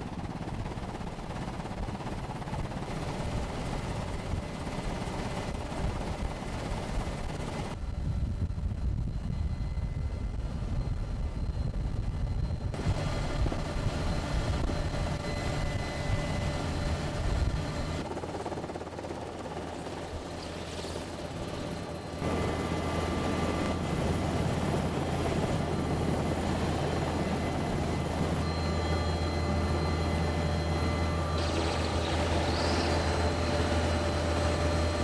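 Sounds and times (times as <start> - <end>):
helicopter rotor and turbine: 0.0 - 35.0.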